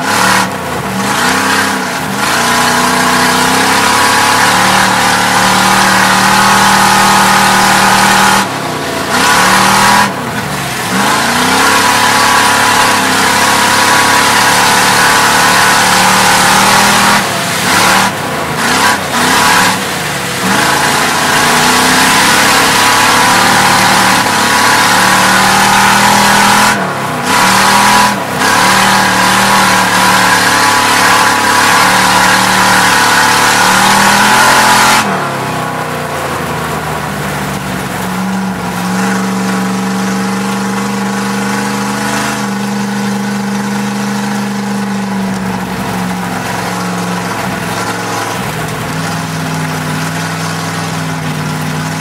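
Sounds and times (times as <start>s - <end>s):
race car engine at full throttle: 0.0s - 52.0s.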